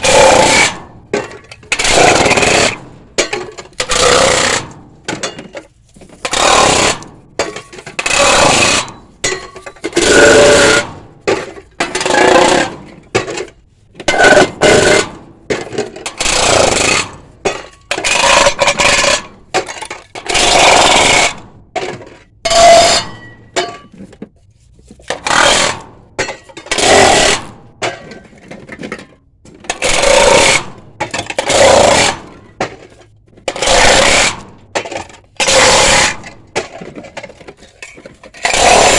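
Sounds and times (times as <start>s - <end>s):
drink cans being crushed: 0.0s - 24.2s, 25.1s - 38.9s.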